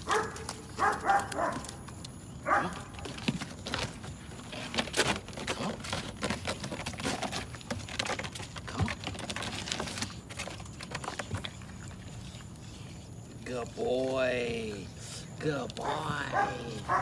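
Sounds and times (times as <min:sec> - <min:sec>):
paws scrabbling on ramp: 0:00.0 - 0:13.4, 0:15.7 - 0:17.0.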